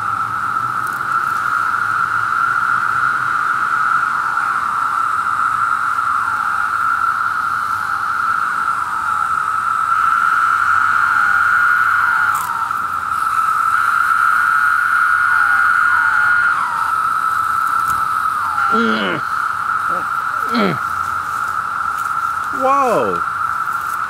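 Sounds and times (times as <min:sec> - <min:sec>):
cicada chorus droning: 0:00.0 - 0:24.0
single cicada calls with falling slur: 0:00.0 - 0:24.0.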